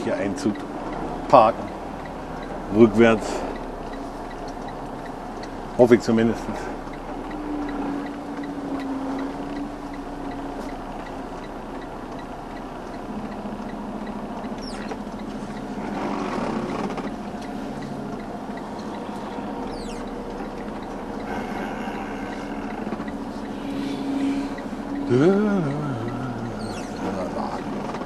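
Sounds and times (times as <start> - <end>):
faint regular ticking: 0.0 - 28.0
truck diesel engine running: 0.0 - 28.0.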